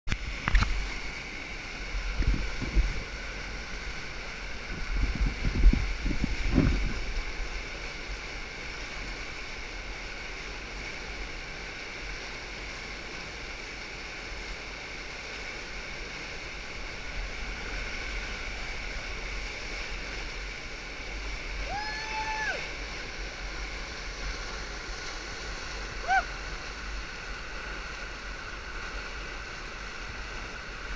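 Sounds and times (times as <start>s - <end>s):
water rushing through flume: 0.1s - 30.9s.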